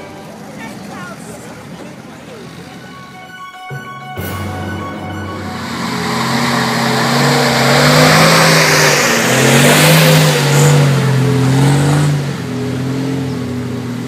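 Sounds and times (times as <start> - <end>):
military truck engine driving past: 0.0 - 14.0.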